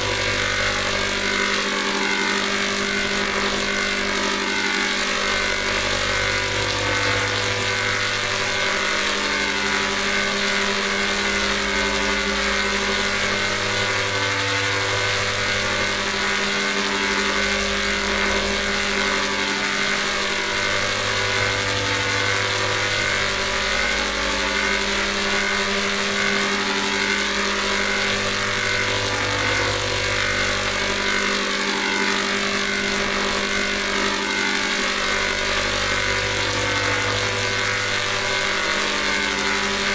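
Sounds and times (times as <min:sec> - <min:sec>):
electronic sustained chord: 0:00.0 - 0:39.9.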